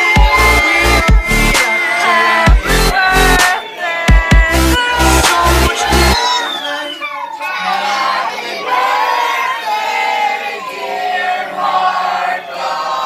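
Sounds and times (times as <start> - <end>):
children and adults singing: 0.0 - 13.0.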